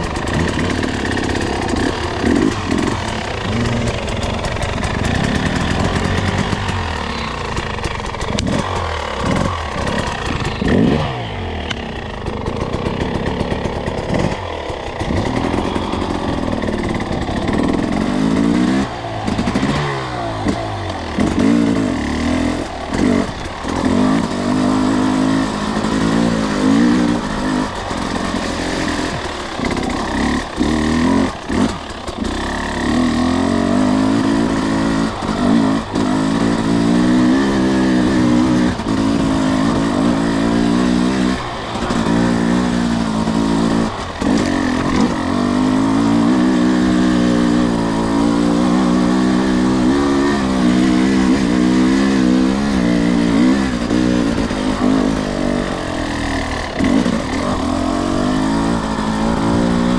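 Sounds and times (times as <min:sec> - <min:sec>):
two-stroke dirt bike engine: 0:00.0 - 0:59.9.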